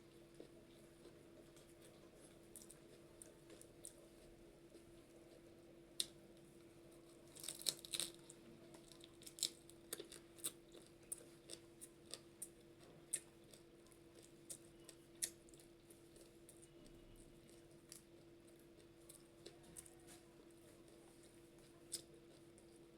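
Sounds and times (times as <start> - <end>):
close chewing with wet clicks: 0.3 - 6.2, 7.0 - 22.9.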